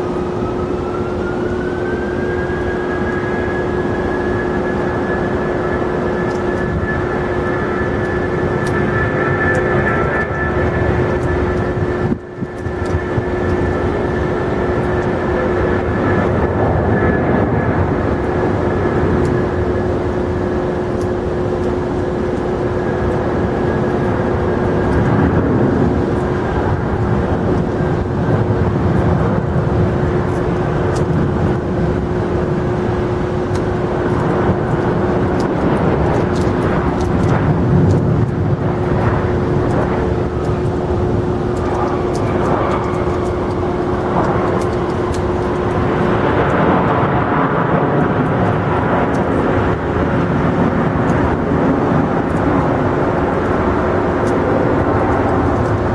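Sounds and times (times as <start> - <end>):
jet engines droning: 0.0 - 55.9.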